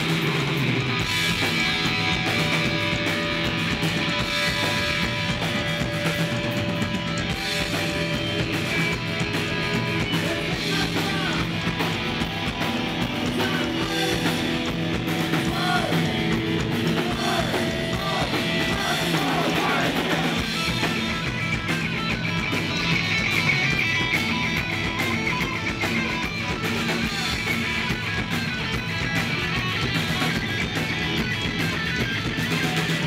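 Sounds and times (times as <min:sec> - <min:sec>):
bass guitar: 0:00.0 - 0:33.0
drums: 0:00.0 - 0:33.0
electric guitars: 0:00.0 - 0:33.0.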